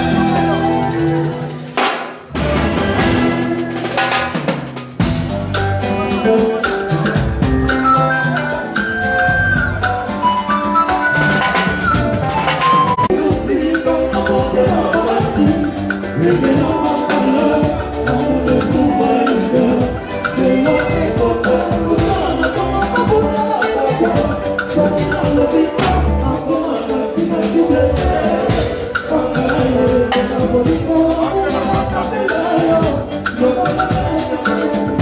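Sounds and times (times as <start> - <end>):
people singing into microphones: 0.0 - 1.9, 5.8 - 35.0
rumba band playing: 0.0 - 35.0.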